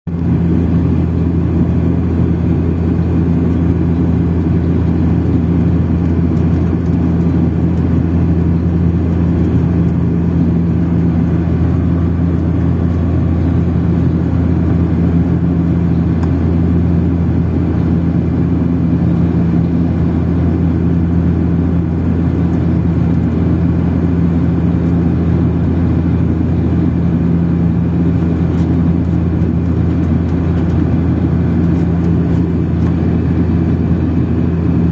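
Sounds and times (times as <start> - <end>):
airliner cabin drone: 0.1 - 34.9.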